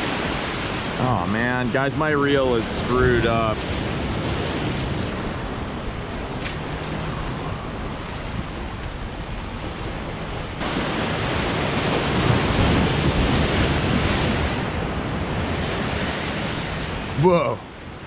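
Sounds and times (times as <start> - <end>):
surf breaking against rocks: 0.0 - 17.4
wind on microphone: 0.0 - 18.0.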